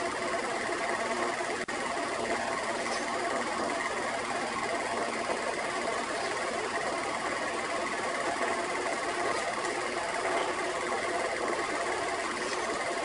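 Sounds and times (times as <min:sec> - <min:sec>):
film projector clatter: 0:00.0 - 0:13.0.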